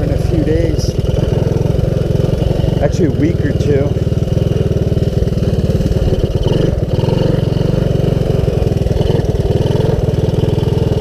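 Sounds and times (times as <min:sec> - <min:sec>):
single-cylinder engine running: 0:00.0 - 0:11.0.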